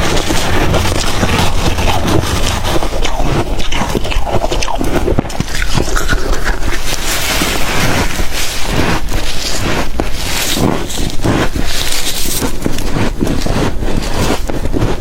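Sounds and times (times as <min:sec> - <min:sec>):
chewing crunchy frost: 0:00.0 - 0:15.0.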